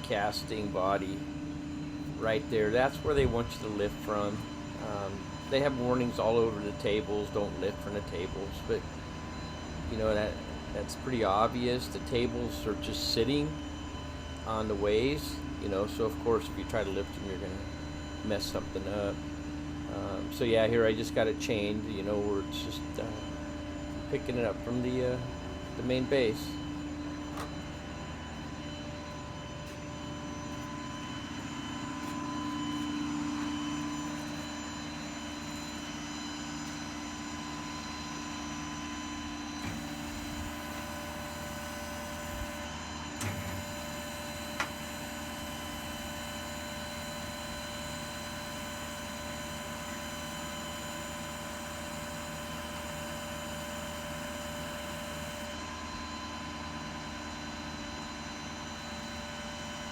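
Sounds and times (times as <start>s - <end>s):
steady multi-tone hum: 0.0s - 59.9s.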